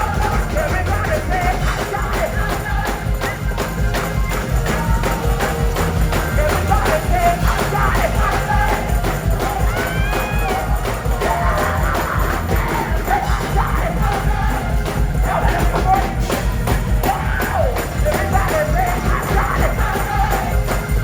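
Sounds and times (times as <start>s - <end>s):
bass line: 0.0s - 21.0s
drums beat: 0.0s - 21.0s
gospel choir with band: 0.0s - 21.0s.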